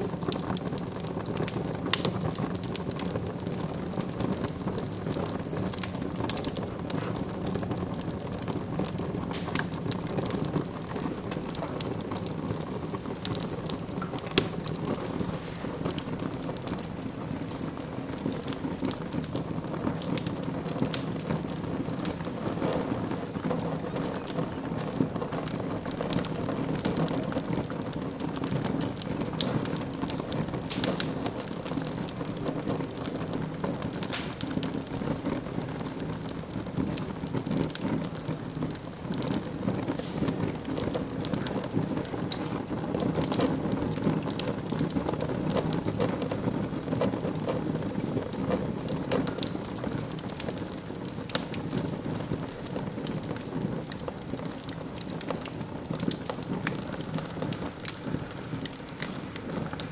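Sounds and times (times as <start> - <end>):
wood fire crackling in fireplace: 0.0 - 59.9.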